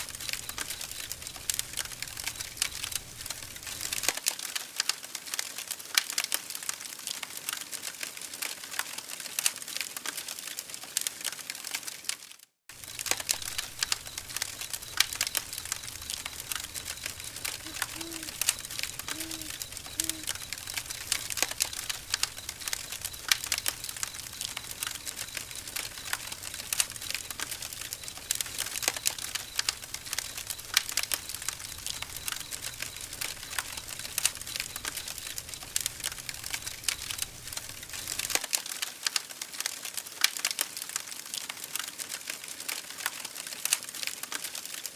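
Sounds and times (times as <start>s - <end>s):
campfire crackling: 0.0s - 44.8s.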